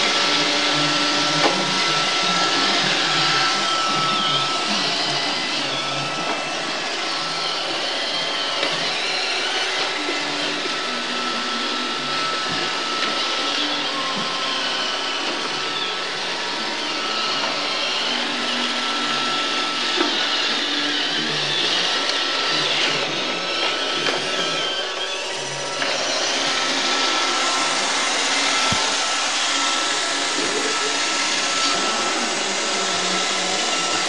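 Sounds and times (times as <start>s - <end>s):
robot vacuum running: 0.0s - 34.0s.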